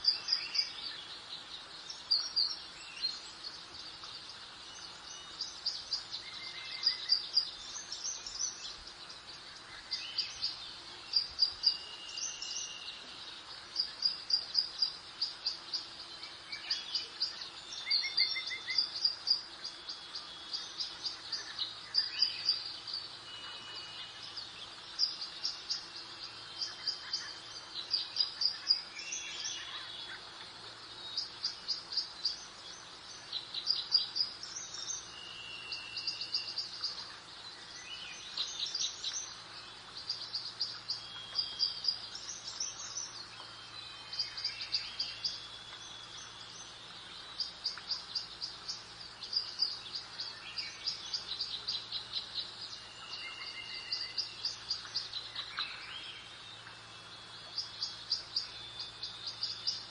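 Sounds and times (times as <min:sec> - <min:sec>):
soft background hiss: 0:00.0 - 0:59.9
songbirds trilling and chirping: 0:00.0 - 0:59.9.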